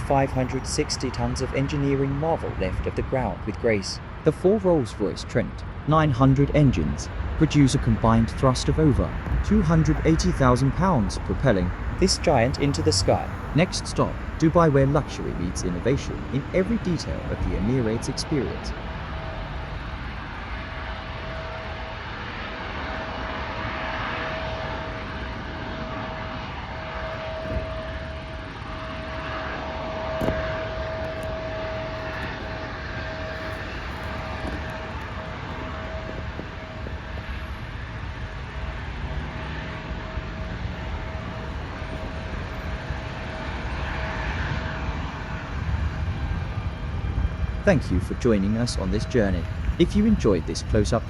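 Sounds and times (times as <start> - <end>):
jet engines at takeoff: 0.0 - 51.0.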